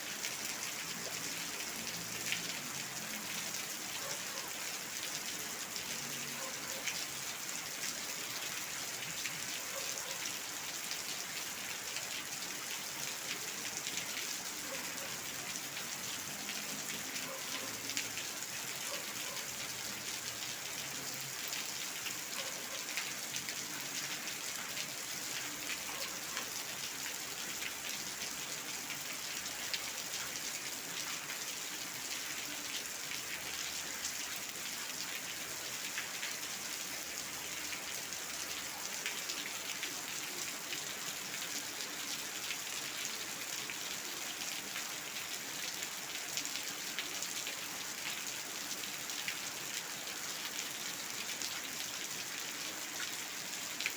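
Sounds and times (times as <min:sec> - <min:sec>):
rain drops splashing on hard floor: 0:00.0 - 0:53.9.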